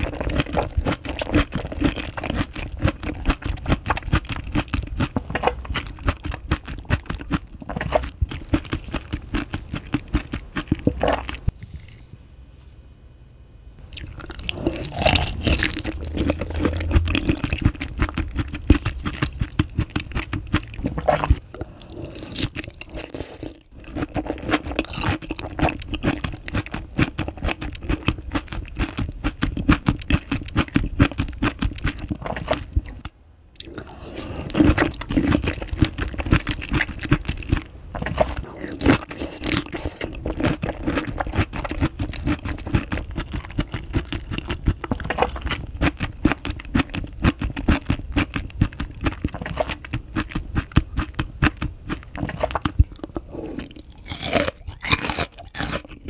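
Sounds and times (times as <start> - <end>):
wet chewing mouth sounds: 0.0 - 11.6, 13.9 - 56.0.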